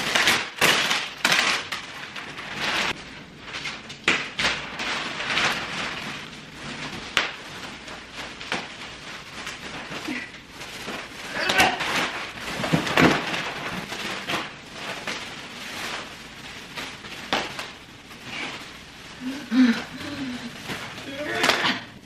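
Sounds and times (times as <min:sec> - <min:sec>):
thick plastic wrapping crinkling: 0:00.0 - 0:22.0.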